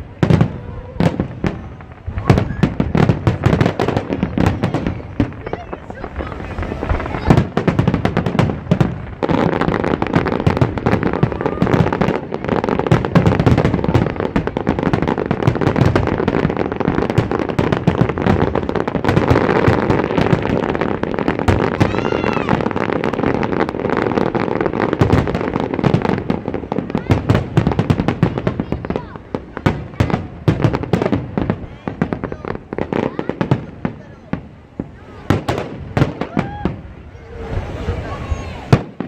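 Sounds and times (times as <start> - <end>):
firework whistling: 0.0 - 39.0
fireworks bangs and crackling: 0.0 - 39.0.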